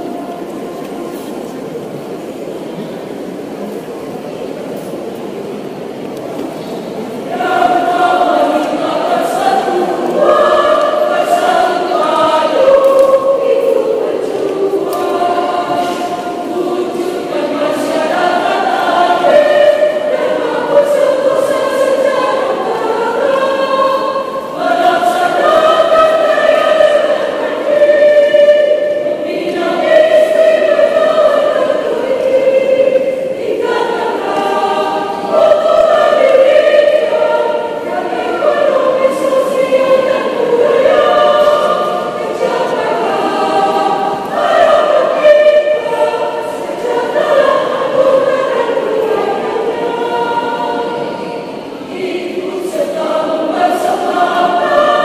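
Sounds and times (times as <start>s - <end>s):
women's choir singing: 0.0s - 3.7s, 6.4s - 55.0s.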